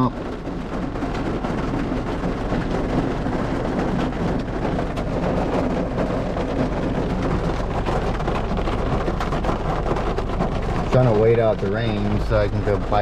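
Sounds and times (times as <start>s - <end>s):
close raindrop hits: 0.0s - 13.0s
steady rain falling: 0.0s - 13.0s.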